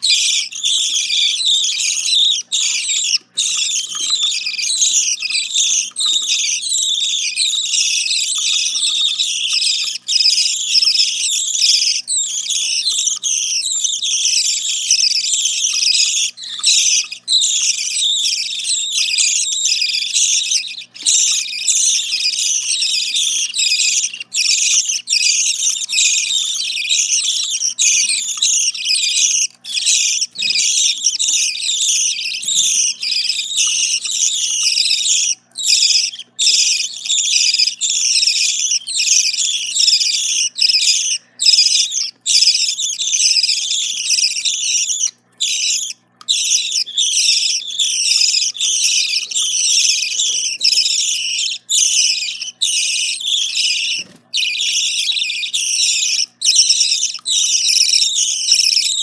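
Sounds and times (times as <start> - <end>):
chicks chirping: 0.0 - 59.0.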